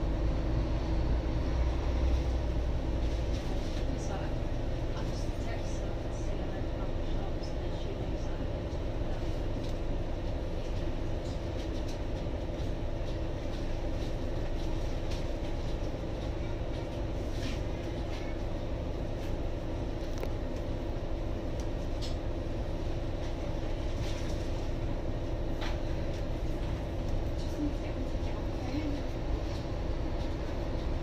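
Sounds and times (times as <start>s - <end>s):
bus engine idling: 0.0s - 31.0s.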